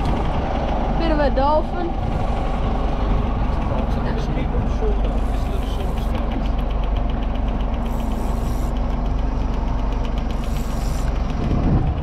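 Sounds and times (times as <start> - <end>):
boat engine droning and ticking: 0.0 - 12.0.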